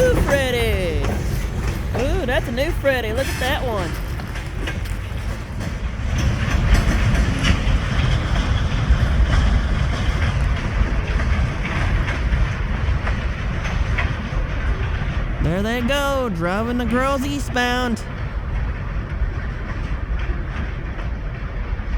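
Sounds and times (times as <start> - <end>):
freight train rumbling past: 0.0 - 21.9
wheels clicking over rail joints: 0.0 - 21.9.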